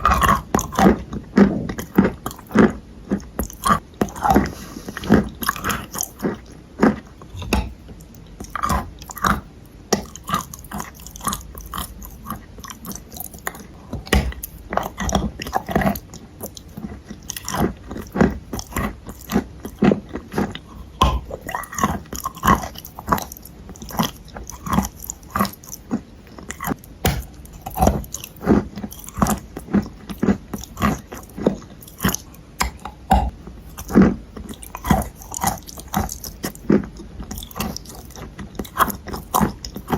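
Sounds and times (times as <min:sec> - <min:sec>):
person chewing clay: 0:00.0 - 0:39.9.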